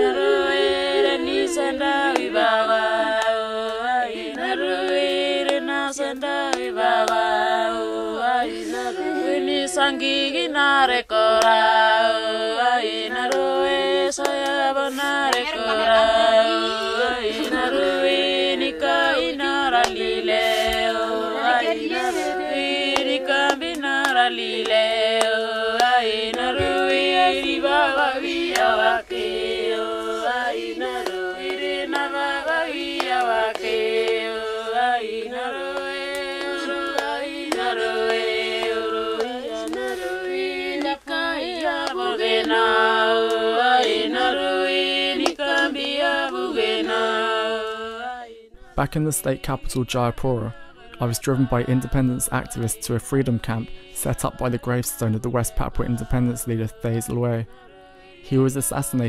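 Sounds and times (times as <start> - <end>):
women singing a lament: 0.0 - 59.0.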